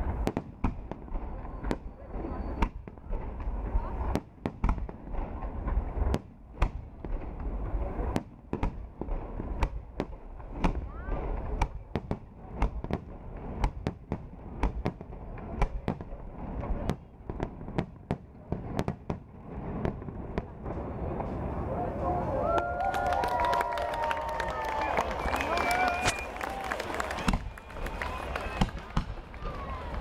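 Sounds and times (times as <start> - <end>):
fireworks bursting with sharp bangs: 0.0 - 30.0.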